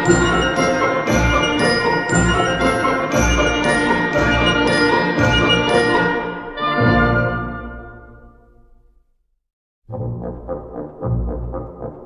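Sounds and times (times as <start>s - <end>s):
brass-led music with pulsing beat: 0.0s - 8.2s, 9.9s - 12.0s.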